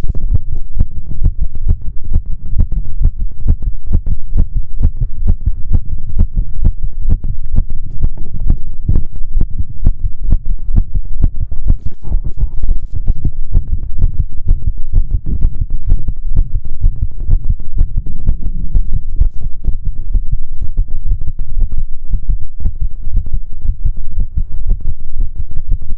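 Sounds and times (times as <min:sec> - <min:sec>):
heartbeat: 0:00.0 - 0:25.9.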